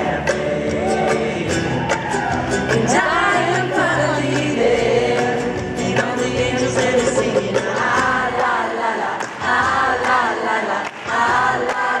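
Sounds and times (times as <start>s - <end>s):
upright bass: 0.0s - 10.3s
acoustic guitar: 0.0s - 12.0s
man and woman singing: 0.0s - 12.0s.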